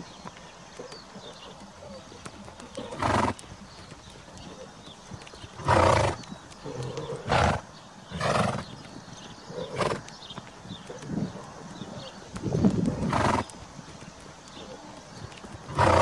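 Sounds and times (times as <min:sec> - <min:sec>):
faint birdsong: 0:00.0 - 0:16.0
horses breathy snorts: 0:00.0 - 0:16.0.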